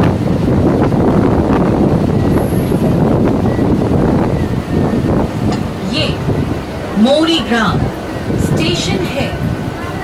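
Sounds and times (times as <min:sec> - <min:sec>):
train wheels rumbling on track: 0:00.0 - 0:10.0
wind on microphone: 0:00.0 - 0:10.0.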